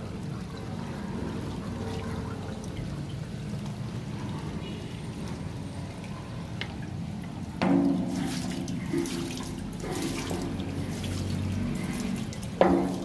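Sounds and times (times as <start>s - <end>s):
water pouring from drain: 0.0s - 13.0s.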